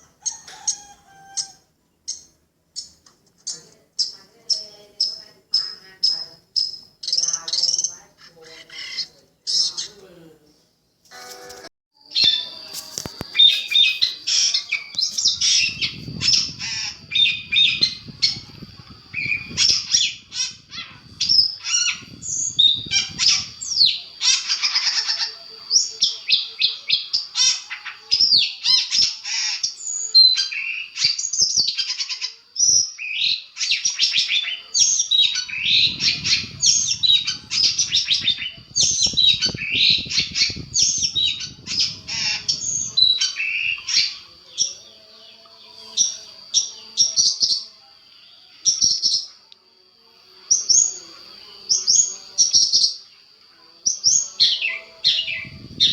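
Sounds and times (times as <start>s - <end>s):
shrike chirps trills and squawks: 0.0s - 10.1s, 12.0s - 45.1s, 53.8s - 55.9s.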